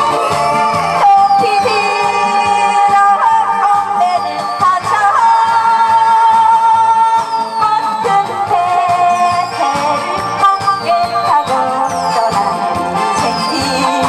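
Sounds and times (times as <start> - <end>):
backing music with bass beat: 0.0 - 14.0
woman singing into microphone: 0.9 - 14.0.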